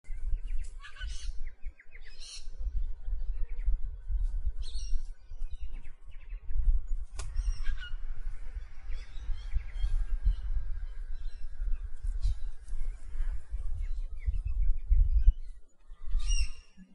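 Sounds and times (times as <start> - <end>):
birds chirping: 0.1 - 16.9
low rumble: 2.5 - 16.7.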